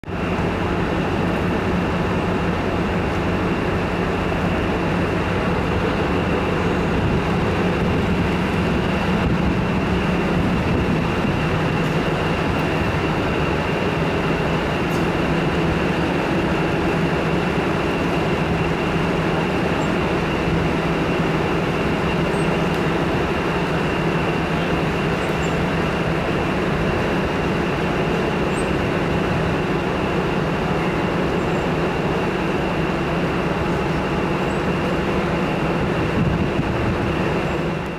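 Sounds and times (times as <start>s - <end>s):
train engine drone: 0.0s - 37.9s.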